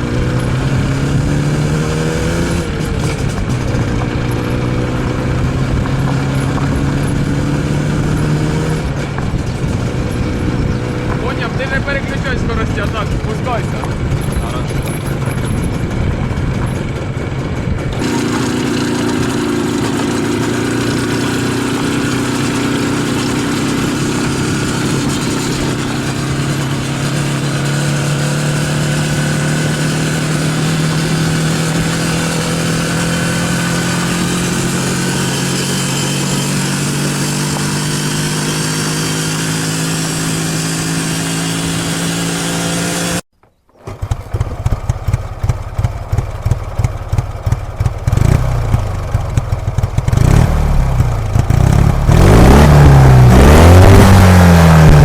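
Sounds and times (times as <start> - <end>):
motorcycle engine running: 0.0 - 43.2, 43.9 - 55.0.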